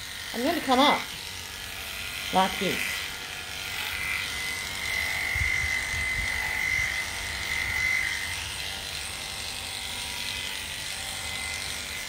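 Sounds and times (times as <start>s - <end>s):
electric clippers humming: 0.0s - 12.0s.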